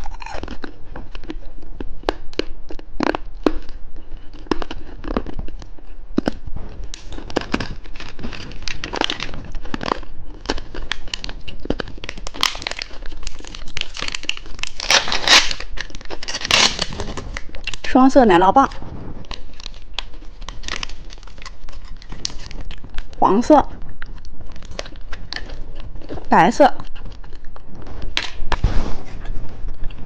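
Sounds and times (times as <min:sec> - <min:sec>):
plastic wrapper crinkling and tearing: 0:00.0 - 0:30.0.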